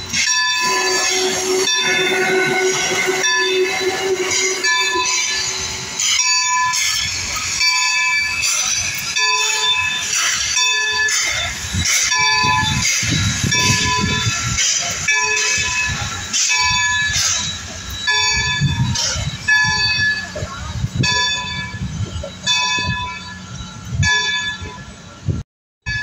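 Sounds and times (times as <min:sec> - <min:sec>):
train wheels squealing on rails: 0:00.0 - 0:26.0.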